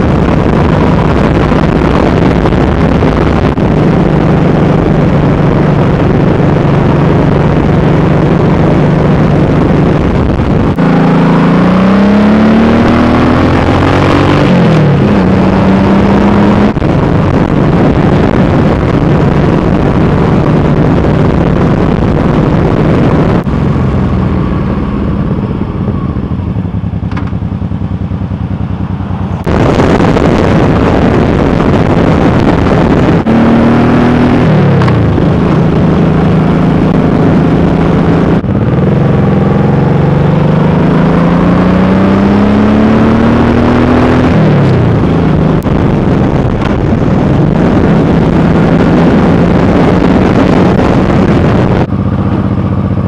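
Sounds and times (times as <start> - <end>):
motorcycle engine: 0.0 - 53.0
wind rushing over microphone: 0.0 - 53.0.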